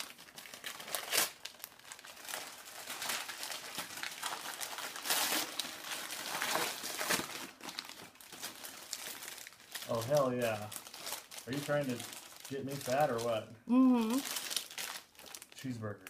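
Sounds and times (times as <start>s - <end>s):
wrapping paper rustling: 0.0s - 15.8s.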